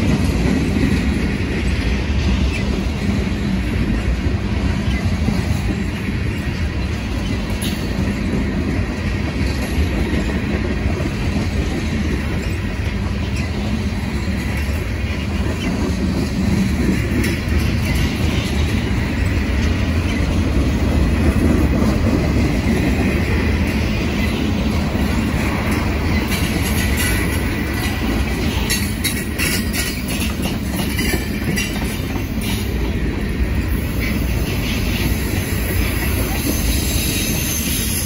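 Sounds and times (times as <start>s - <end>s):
wheels clicking over rail joints: 0.0s - 37.7s
freight train wheels rumbling: 0.0s - 38.0s.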